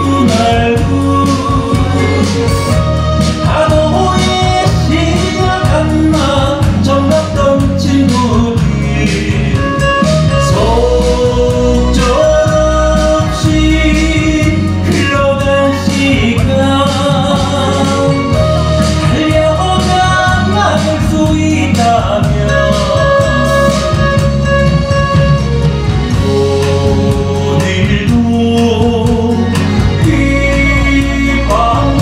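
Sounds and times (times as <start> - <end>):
man singing long notes: 0.0 - 25.2, 26.0 - 32.0
live band with drums and bass: 0.0 - 32.0.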